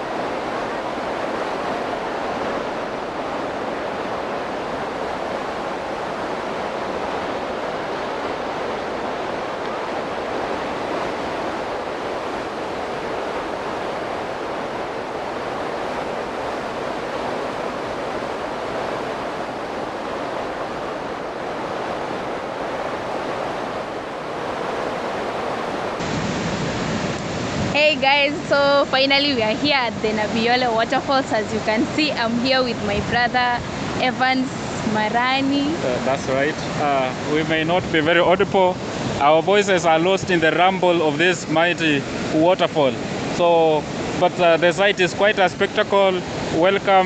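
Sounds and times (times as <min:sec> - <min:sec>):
waterfall rumbling: 0:00.0 - 0:47.0.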